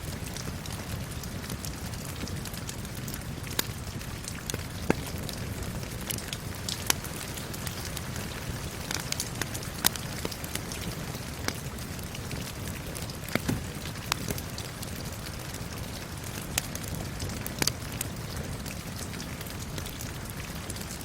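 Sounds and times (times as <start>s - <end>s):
rain falling: 0.0s - 21.0s
wood fire crackling: 0.0s - 21.0s.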